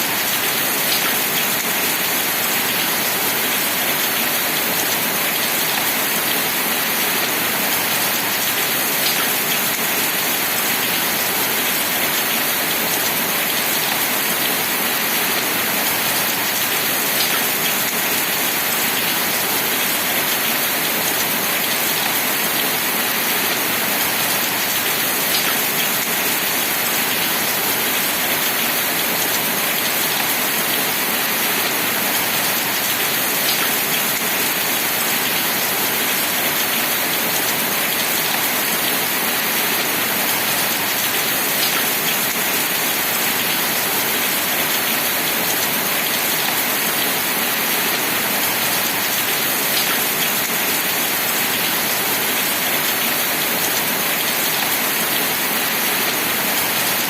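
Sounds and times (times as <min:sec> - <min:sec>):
steady dense rain: 0:00.0 - 0:57.0.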